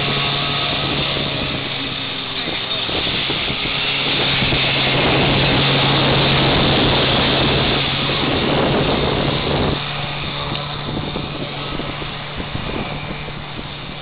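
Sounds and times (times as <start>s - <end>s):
outboard motor running: 0.0s - 14.0s
surf rushing: 0.0s - 14.0s.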